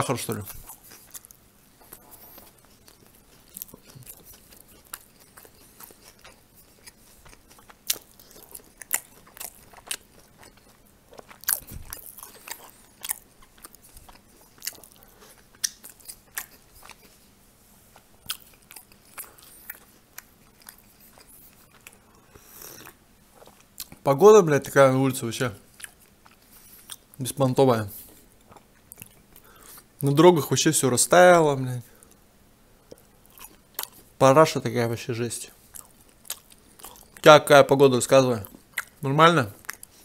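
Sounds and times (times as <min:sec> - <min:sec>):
crunchy food chewing: 0:00.2 - 0:24.1, 0:25.6 - 0:27.2, 0:27.9 - 0:30.0, 0:32.8 - 0:34.2, 0:35.6 - 0:37.3, 0:38.3 - 0:40.0.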